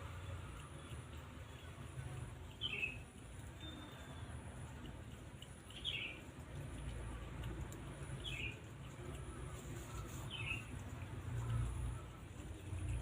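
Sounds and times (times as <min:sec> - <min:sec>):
small bird chirping: 0:00.6 - 0:06.4, 0:08.0 - 0:13.0.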